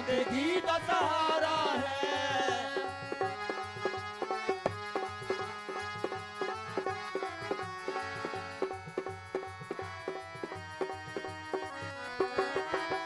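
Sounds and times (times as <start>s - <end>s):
harmonium melody: 0.0s - 13.0s.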